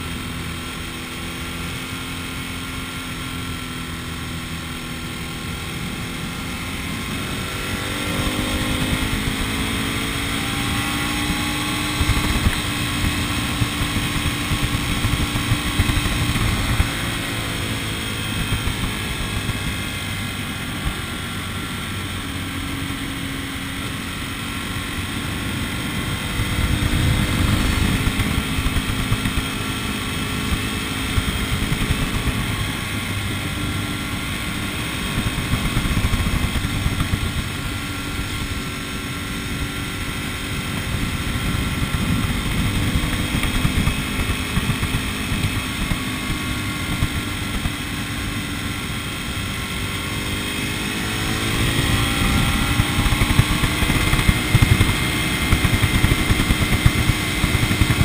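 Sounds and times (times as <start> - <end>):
road noise rumble: 0.0 - 58.0
vehicle engine running: 0.0 - 58.0.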